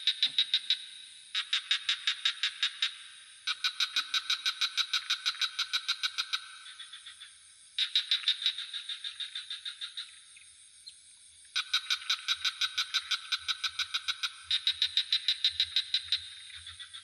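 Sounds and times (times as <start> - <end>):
frogs calling in pulsed trills: 0.0 - 17.0.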